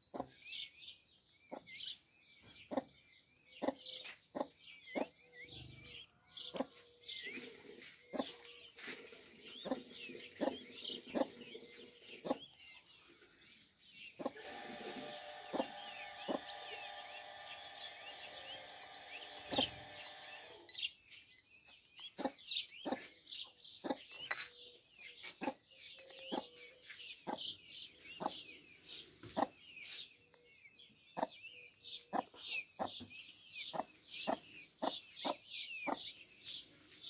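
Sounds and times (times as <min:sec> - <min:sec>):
chicks peeping: 0:00.1 - 0:37.0.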